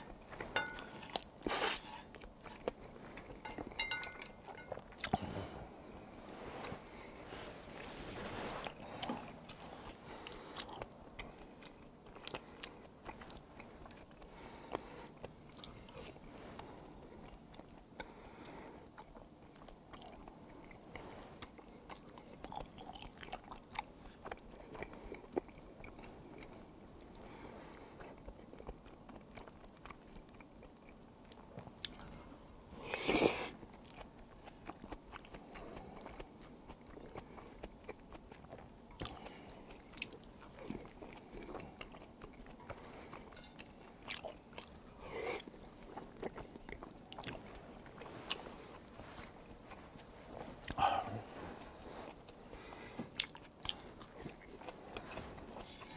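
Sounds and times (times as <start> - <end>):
close-up chewing: 0.0 - 55.9.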